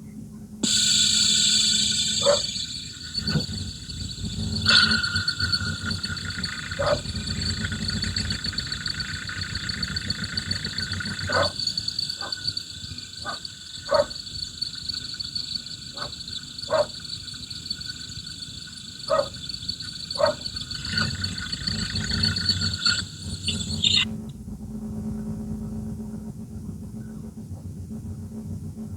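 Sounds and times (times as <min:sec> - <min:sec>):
high whine: 0:00.6 - 0:24.2.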